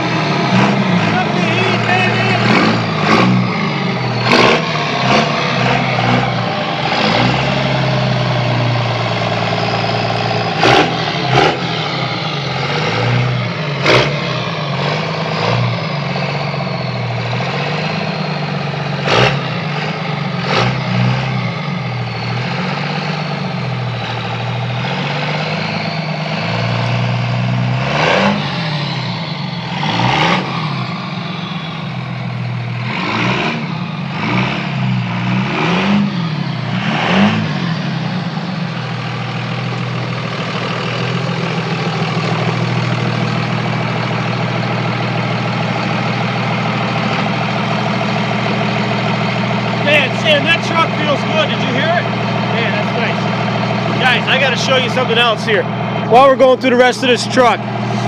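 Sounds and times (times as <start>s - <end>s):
diesel truck engine revving: 0.0s - 58.0s.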